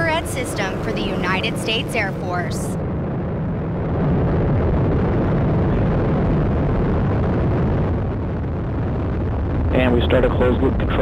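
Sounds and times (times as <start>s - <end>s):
rocket engine roaring: 0.0s - 11.0s.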